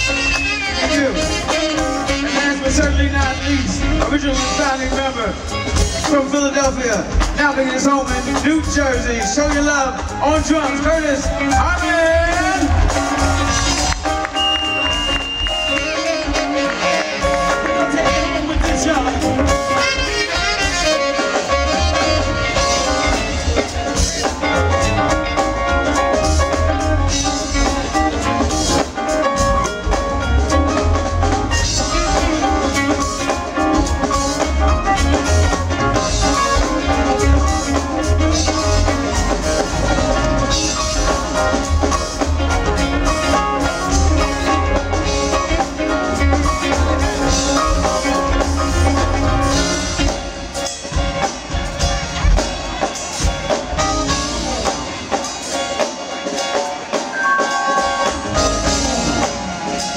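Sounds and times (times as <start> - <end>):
drum kit with cymbals: 0.0 - 59.9
keyboards: 0.0 - 59.9.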